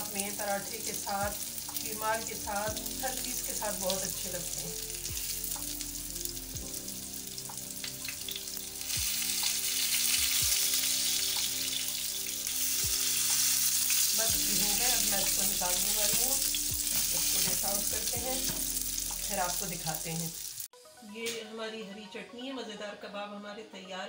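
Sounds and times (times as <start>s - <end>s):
meat patties sizzling in oil: 0.0s - 20.7s.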